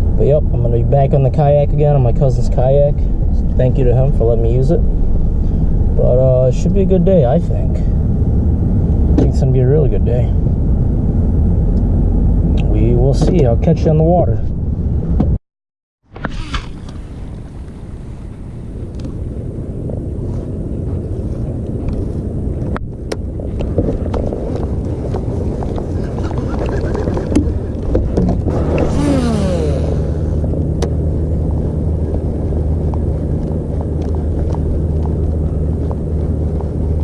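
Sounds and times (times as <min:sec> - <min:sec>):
low engine-like drone: 0:00.0 - 0:15.3, 0:16.1 - 0:37.0
wind rumble on microphone: 0:00.0 - 0:15.4, 0:16.2 - 0:37.0.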